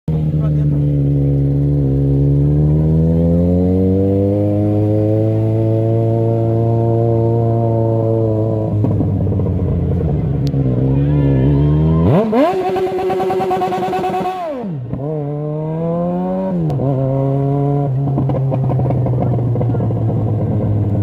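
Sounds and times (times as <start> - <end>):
motorcycle engine revving: 0.1 - 21.0.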